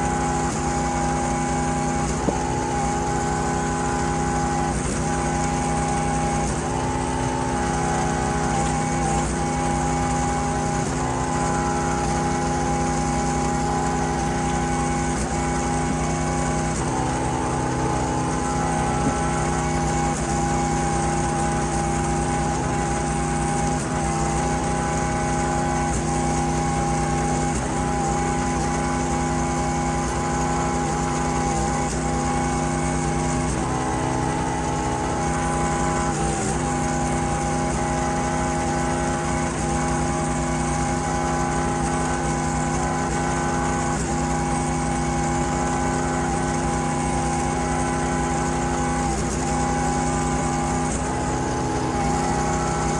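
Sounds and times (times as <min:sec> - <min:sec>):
small engine running steadily: 0:00.0 - 0:52.9.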